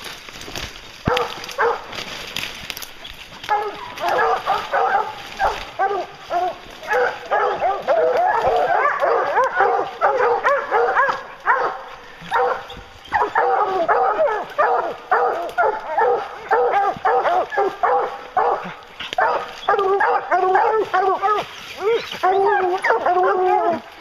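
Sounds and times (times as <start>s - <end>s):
hounds barking and bawling: 0.4s - 24.0s.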